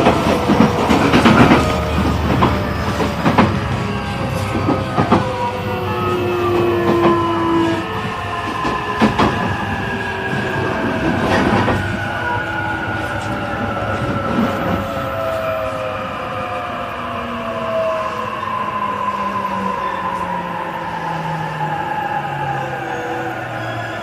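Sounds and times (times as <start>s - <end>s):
low rumble of train wheels: 0.0s - 22.9s.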